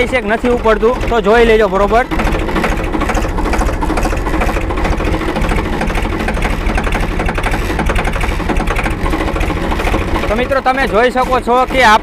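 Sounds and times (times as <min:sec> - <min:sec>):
tractor diesel engine clattering: 0:00.0 - 0:12.0.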